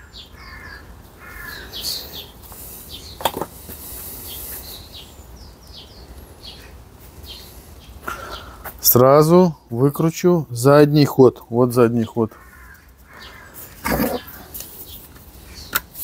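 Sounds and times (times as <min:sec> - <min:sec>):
harsh bird calls: 0:00.0 - 0:16.0.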